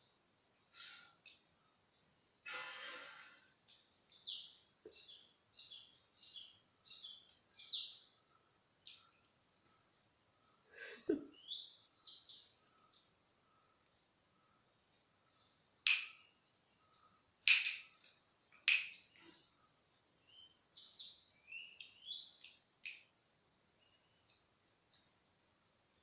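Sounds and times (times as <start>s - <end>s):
small bird chirping: 3.7s - 26.0s.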